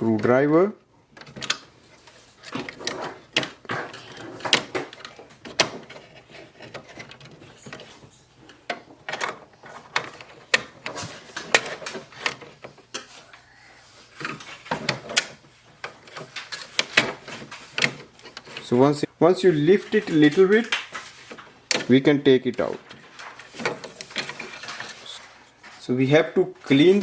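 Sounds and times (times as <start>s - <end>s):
parts clicking and knocking: 1.1s - 13.3s, 14.1s - 18.9s, 19.7s - 25.8s.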